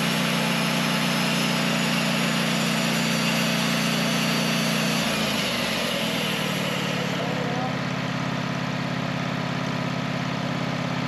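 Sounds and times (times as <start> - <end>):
sawmill engine running under load: 0.0 - 11.0.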